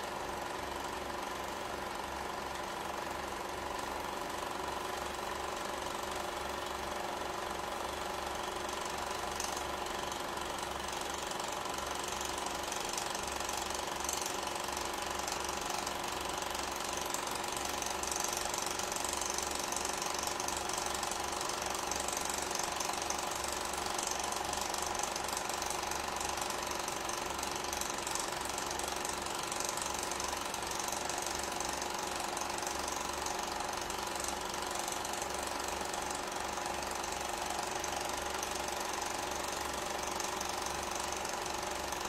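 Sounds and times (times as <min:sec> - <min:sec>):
film projector clattering: 0:00.0 - 0:42.0.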